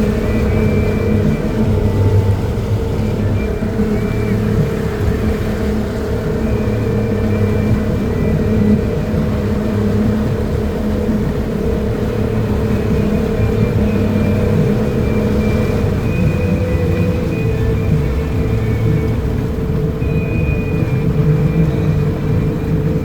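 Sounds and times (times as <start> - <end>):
motorboat engine drone: 0.0 - 23.0.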